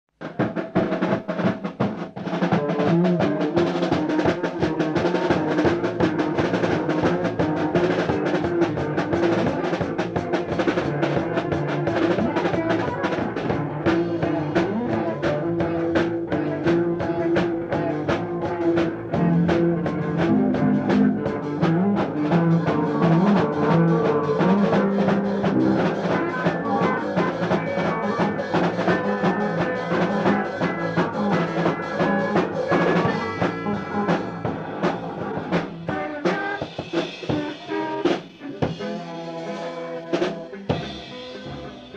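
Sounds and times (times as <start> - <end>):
drum kit steady beat: 0.1 - 41.9
guitar lines: 0.4 - 41.9.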